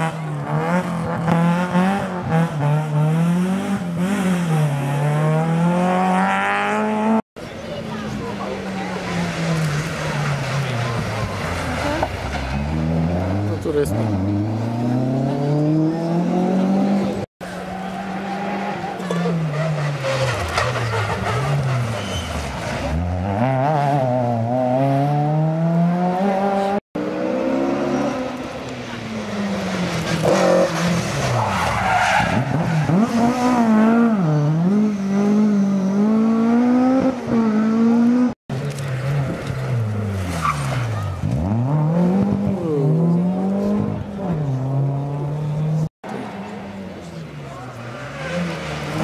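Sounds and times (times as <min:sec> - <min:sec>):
rally car engines revving: 0:00.0 - 0:49.0.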